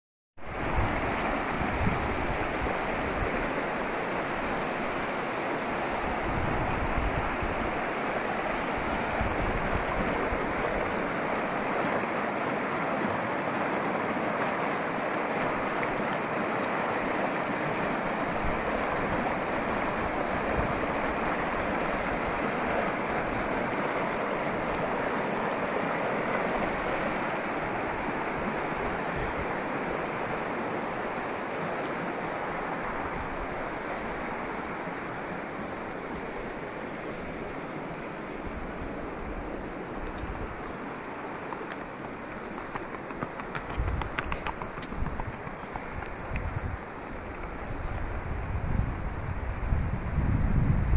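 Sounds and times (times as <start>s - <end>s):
river rushing over rocks: 0.4s - 50.0s.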